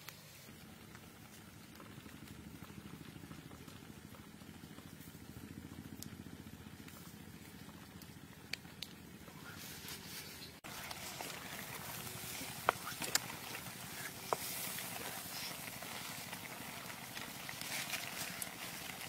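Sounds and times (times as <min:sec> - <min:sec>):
food bubbling and sizzling in wok: 0:00.0 - 0:19.0.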